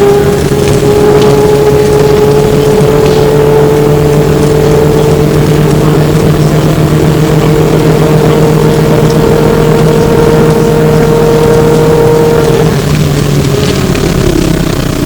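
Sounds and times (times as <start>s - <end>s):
electric drive whine: 0.0s - 15.0s
road noise: 0.0s - 15.0s.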